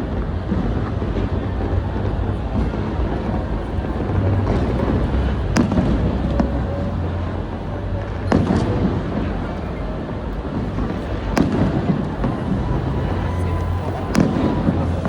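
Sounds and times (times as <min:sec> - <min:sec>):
rumble of bursting fireworks: 0:00.0 - 0:15.0
sharp firework bangs: 0:00.0 - 0:15.0.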